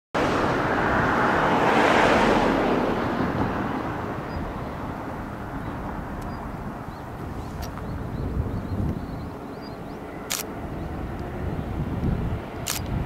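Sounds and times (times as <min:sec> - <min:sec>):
passing vehicle rushing: 0:00.2 - 0:13.0.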